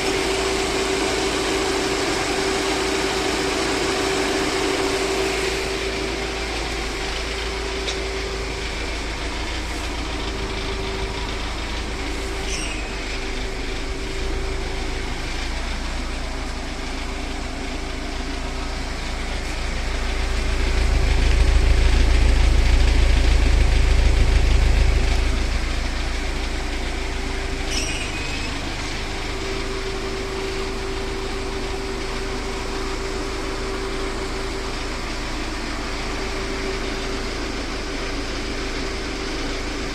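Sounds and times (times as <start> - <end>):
four-cylinder engine running: 0.0 - 39.9.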